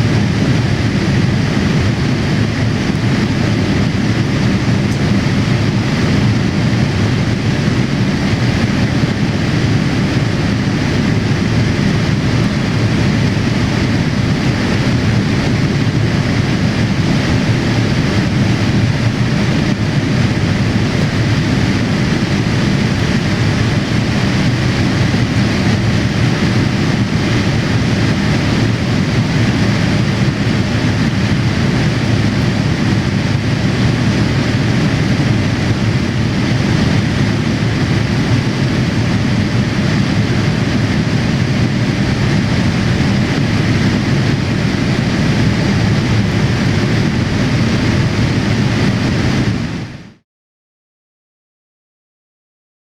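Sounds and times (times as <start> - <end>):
airliner cabin rumble: 0.0 - 50.2.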